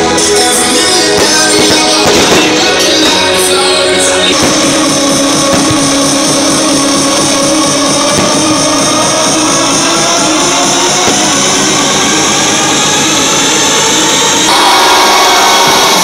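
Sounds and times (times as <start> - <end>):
loud amplified music: 0.0 - 16.0.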